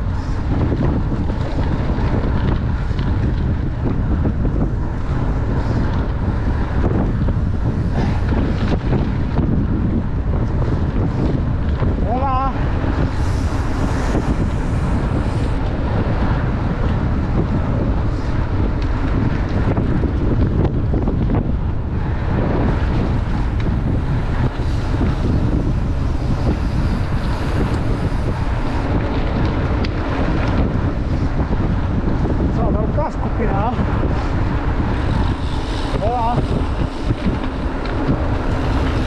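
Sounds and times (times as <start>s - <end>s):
tyre rumble on asphalt: 0.0s - 39.0s
wind rush on microphone: 0.0s - 39.0s.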